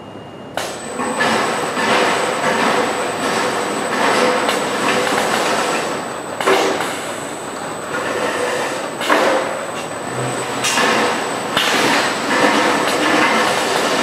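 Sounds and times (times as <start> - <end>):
conveyor running: 0.0 - 14.0.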